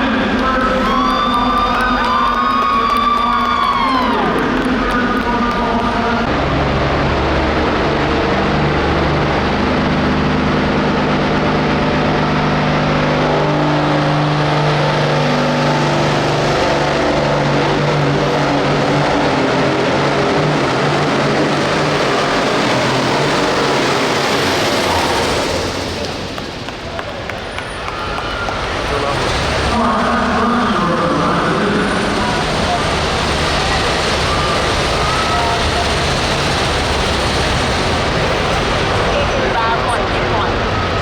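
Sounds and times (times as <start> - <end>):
tractor diesel engine under load: 0.0 - 41.0.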